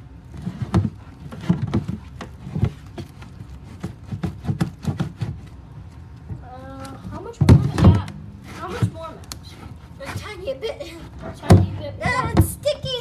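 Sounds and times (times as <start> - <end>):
slime squishing by hand: 0.0 - 13.0.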